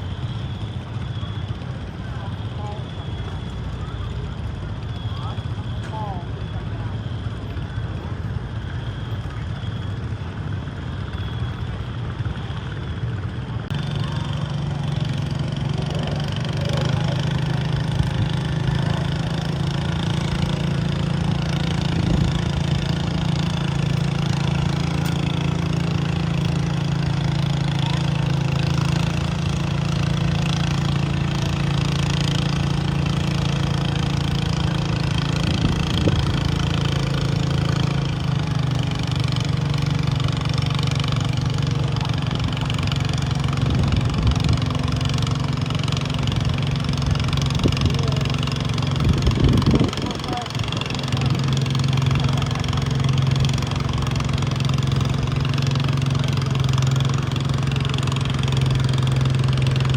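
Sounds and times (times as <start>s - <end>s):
garden tractor engine humming: 0.0s - 59.9s.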